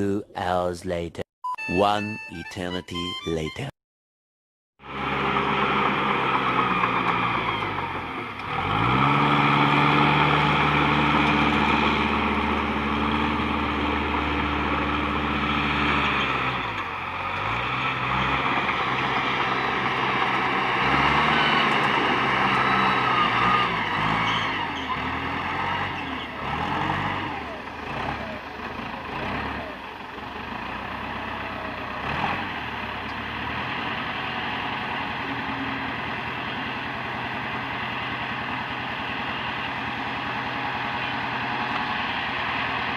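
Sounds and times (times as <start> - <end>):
excavator diesel engine: 4.8 - 42.9.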